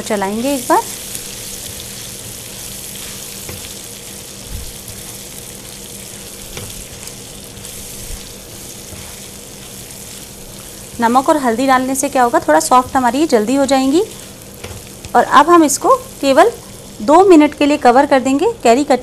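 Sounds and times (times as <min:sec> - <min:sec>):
food sizzling in hot oil: 0:00.0 - 0:18.1.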